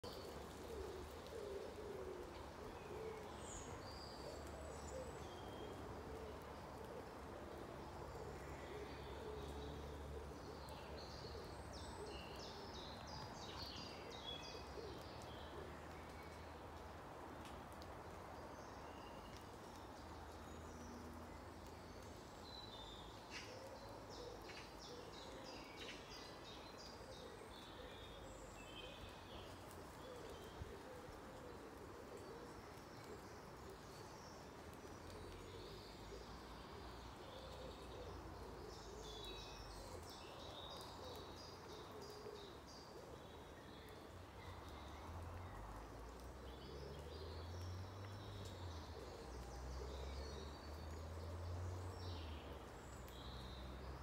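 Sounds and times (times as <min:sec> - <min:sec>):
low cooing bird calls: 0:00.0 - 0:54.0
songbirds chirping: 0:00.0 - 0:54.0.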